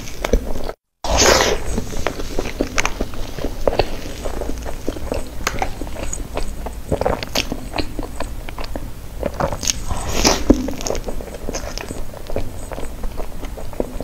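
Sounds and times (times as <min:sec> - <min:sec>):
wet smacking and chewing: 0:00.0 - 0:14.0.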